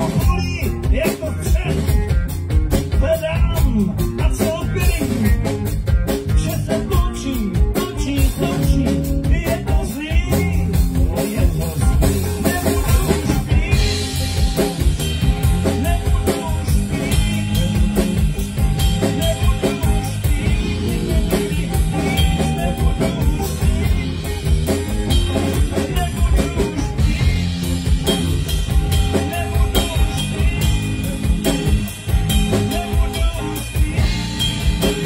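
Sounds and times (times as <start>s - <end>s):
blues-rock band playing: 0.0s - 35.0s.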